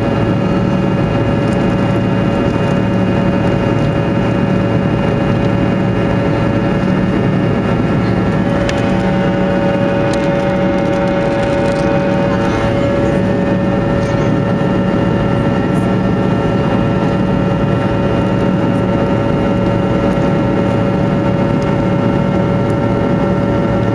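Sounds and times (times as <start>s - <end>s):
jet engines from inside cabin: 0.0s - 23.9s.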